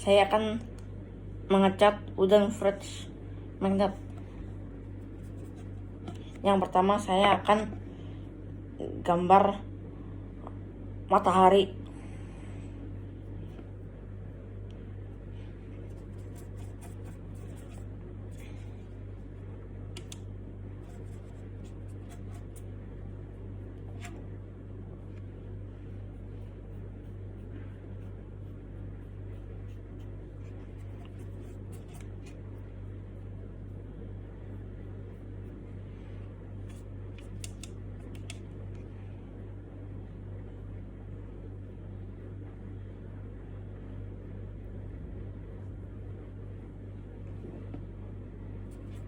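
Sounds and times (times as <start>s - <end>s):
low background hum: 0.0s - 49.0s.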